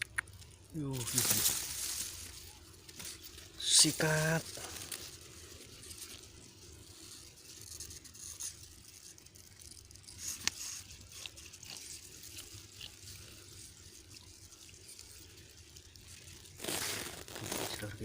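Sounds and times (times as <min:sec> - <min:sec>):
small ticks: 0:00.0 - 0:03.6, 0:04.4 - 0:17.9.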